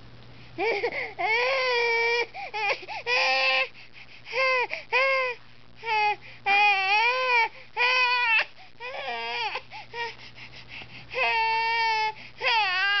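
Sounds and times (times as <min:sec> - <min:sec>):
baby crying: 0:00.6 - 0:03.7, 0:04.3 - 0:10.2, 0:11.2 - 0:13.0.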